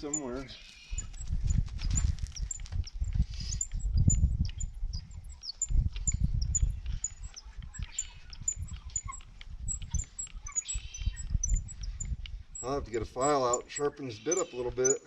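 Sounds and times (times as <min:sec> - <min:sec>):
wind gusting on microphone: 0:00.0 - 0:14.0
blackbirds chirping: 0:00.0 - 0:15.0.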